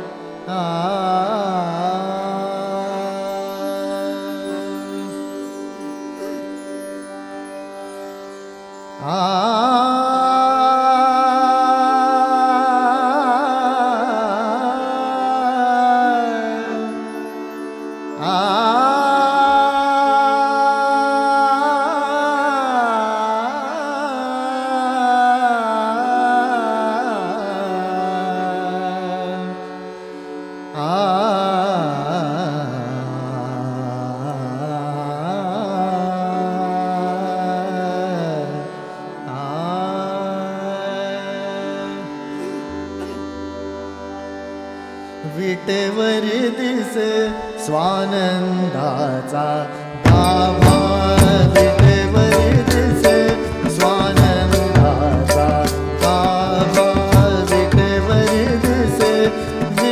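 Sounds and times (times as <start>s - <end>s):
man singing ornamented phrases: 0.0s - 7.6s, 9.0s - 44.3s, 45.2s - 59.9s.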